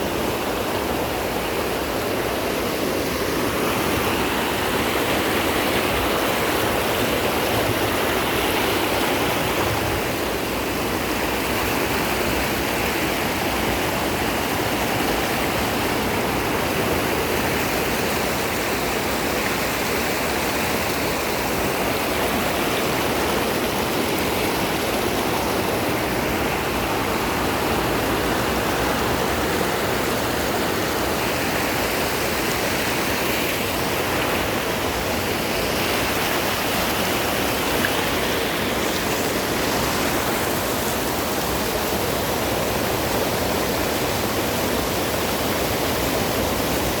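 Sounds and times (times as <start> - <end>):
flowing water rushing: 0.0 - 47.0.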